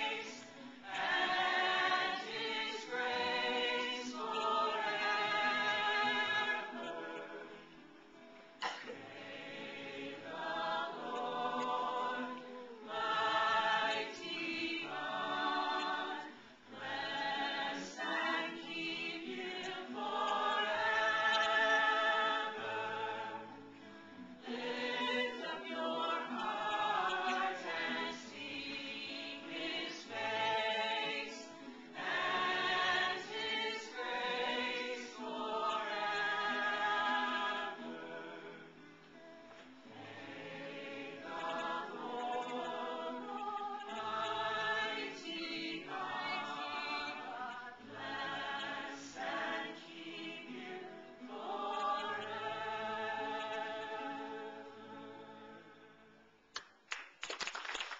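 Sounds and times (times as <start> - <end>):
group singing a gospel song: 0.0 - 7.9, 8.6 - 38.9, 39.7 - 56.1.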